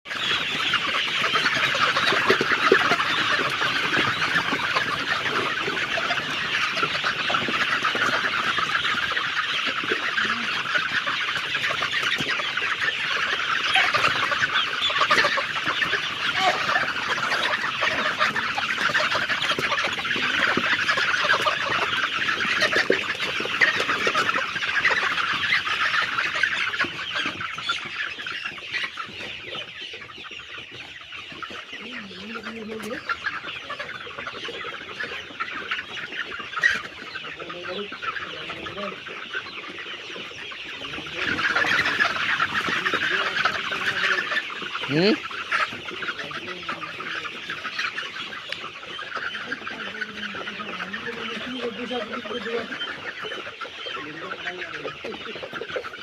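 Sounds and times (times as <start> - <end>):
chickens calling: 0.0 - 56.0.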